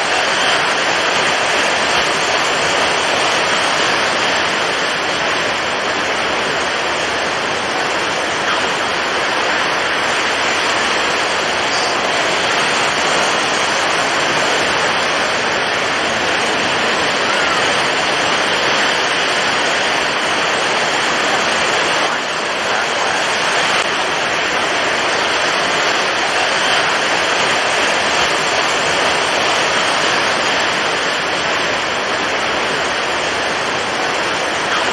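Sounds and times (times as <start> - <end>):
wind and waves rushing: 0.0 - 34.9.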